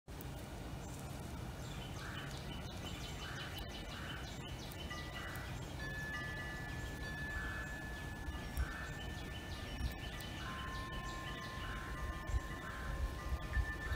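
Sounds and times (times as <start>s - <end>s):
steady hiss: 0.1s - 13.9s.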